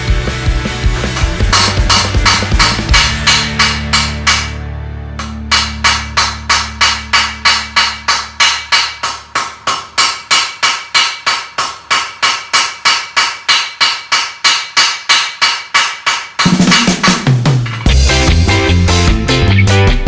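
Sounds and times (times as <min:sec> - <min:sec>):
hammer striking steel on anvil: 0:01.1 - 0:04.6, 0:05.2 - 0:19.1.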